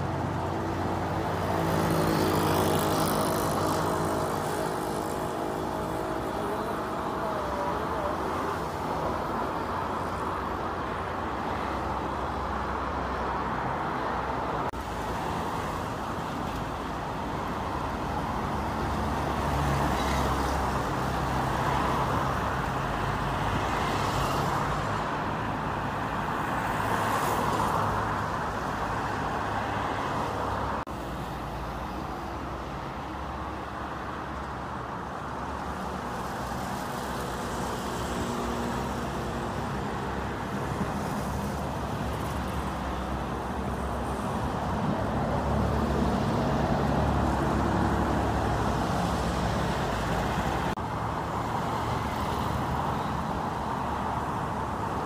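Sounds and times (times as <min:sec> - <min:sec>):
cars and bus passing: 0:00.0 - 0:55.0.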